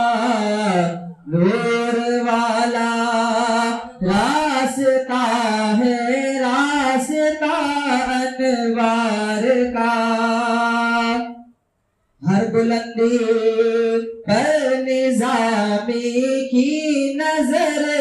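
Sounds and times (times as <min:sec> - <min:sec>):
man singing unaccompanied: 0:00.0 - 0:11.5, 0:12.2 - 0:18.0.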